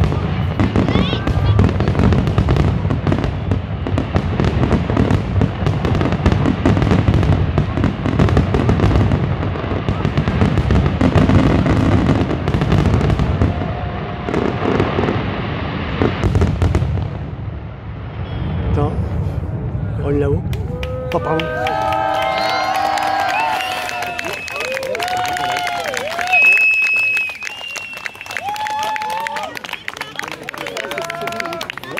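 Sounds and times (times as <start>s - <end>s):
fireworks bursting and crackling: 0.0s - 19.8s, 20.4s - 31.9s.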